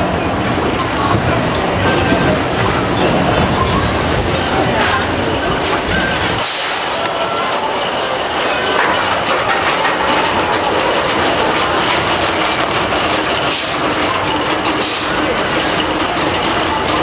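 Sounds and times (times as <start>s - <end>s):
coaster car rattling on track: 0.0s - 17.0s.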